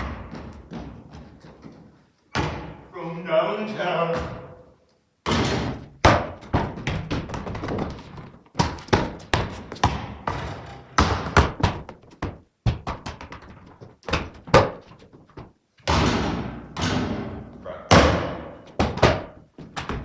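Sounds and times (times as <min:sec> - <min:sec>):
basketball bouncing: 0:00.0 - 0:02.9, 0:04.1 - 0:04.7, 0:05.3 - 0:20.0.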